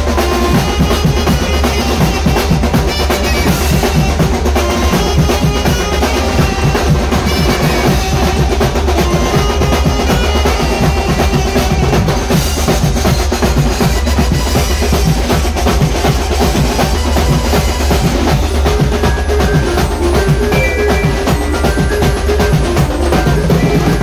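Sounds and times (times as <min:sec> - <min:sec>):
cymbals: 0:00.0 - 0:24.0
fast busy drumming: 0:00.0 - 0:24.0
saxophone melody: 0:00.0 - 0:24.0.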